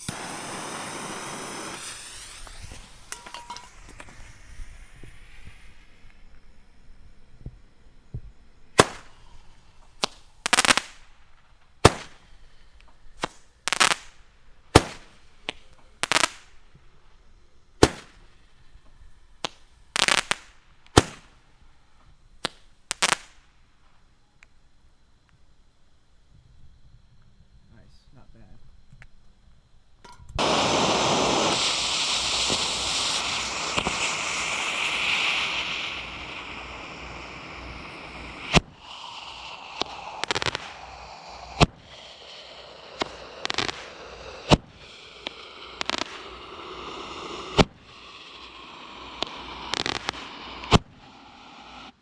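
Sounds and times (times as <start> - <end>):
firework pops and crackling: 0.0 - 25.6, 28.8 - 52.0
fuse hissing: 0.0 - 52.0.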